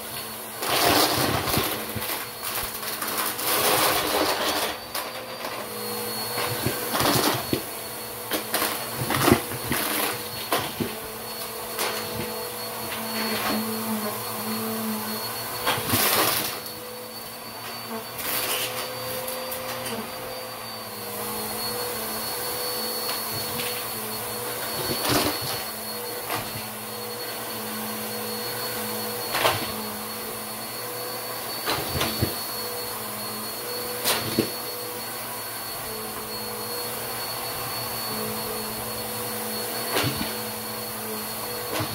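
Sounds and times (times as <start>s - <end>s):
vacuum cleaner motor hum: 0.0s - 41.9s
thin high whine: 0.1s - 41.9s.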